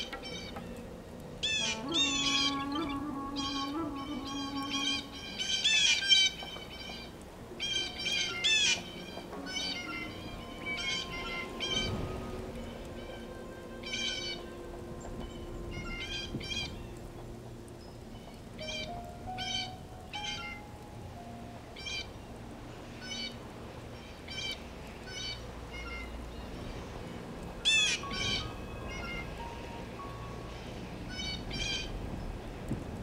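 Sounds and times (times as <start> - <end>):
birds calling: 0.0 - 32.8.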